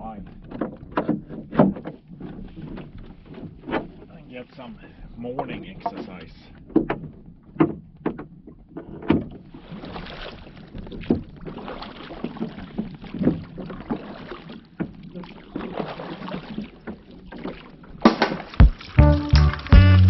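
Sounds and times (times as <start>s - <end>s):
oars knocking in oarlocks: 0.0s - 4.4s, 5.2s - 20.0s
water swishing: 0.0s - 19.7s.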